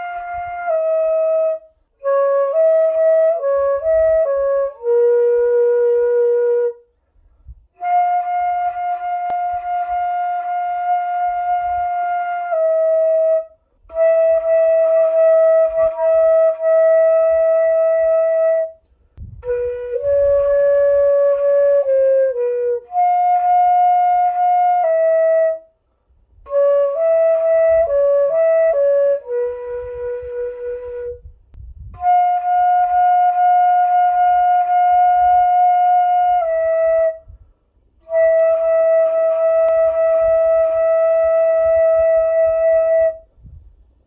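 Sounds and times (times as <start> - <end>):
bamboo flute playing slow melody: 0.0 - 44.0.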